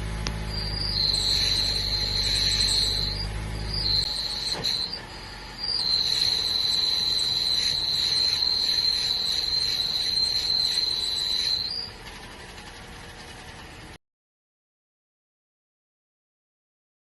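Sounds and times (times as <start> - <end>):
clutch squealing: 0.0 - 14.0.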